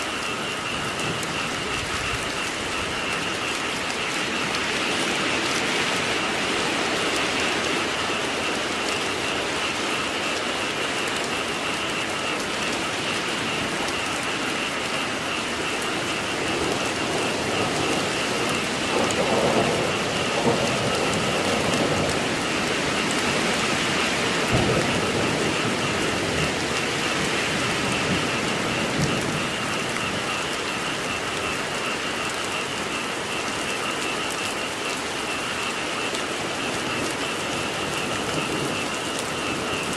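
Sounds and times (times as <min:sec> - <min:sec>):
rain pattering: 0:00.0 - 0:39.9
thunder rumble: 0:00.0 - 0:39.9.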